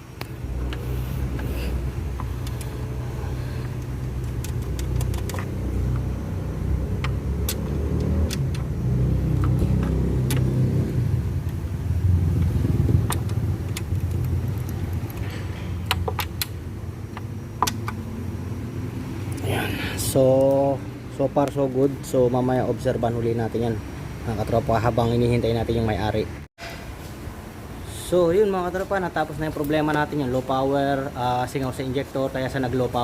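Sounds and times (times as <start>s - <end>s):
car engine rumbling: 0.0s - 26.5s.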